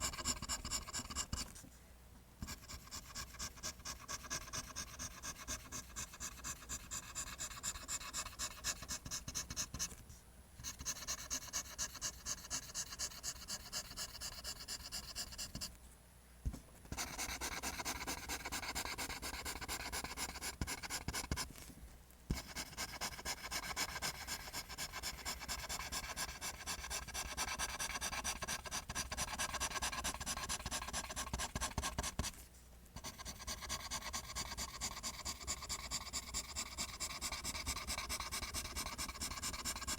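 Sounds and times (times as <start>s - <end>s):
pencil scratching on paper: 0.0s - 1.6s, 2.4s - 10.0s, 10.6s - 15.7s, 16.9s - 21.5s, 22.3s - 32.4s, 33.0s - 39.9s.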